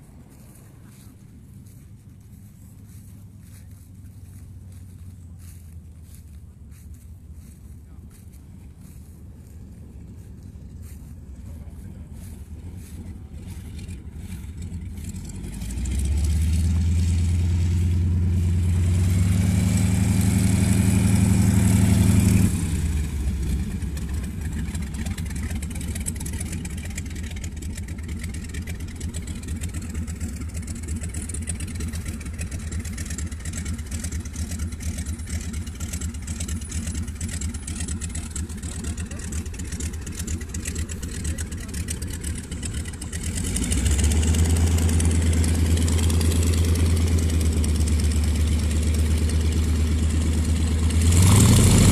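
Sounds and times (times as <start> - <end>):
light aircraft engine and propeller: 0.0 - 51.9
tow plane engine taxiing: 0.0 - 51.9.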